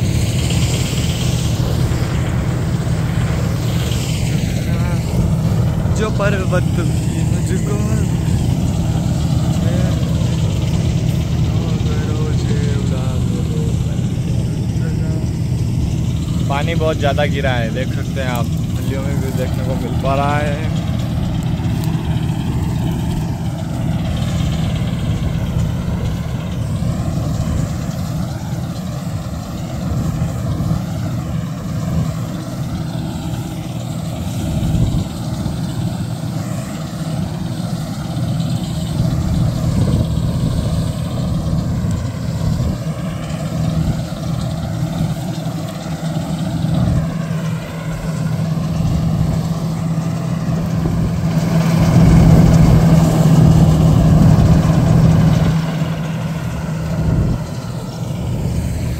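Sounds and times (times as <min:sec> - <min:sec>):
combine harvester humming: 0:00.0 - 0:58.9.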